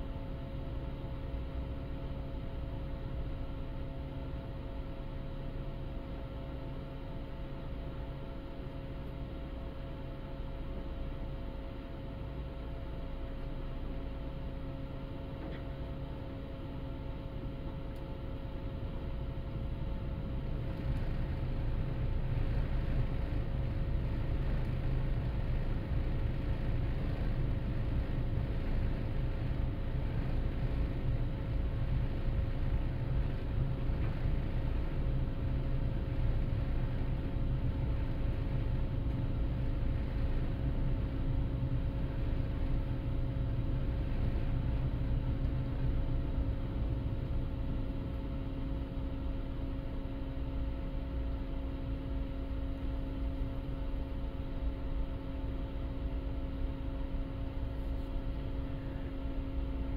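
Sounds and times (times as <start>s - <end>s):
constant hum: 0.0s - 59.9s.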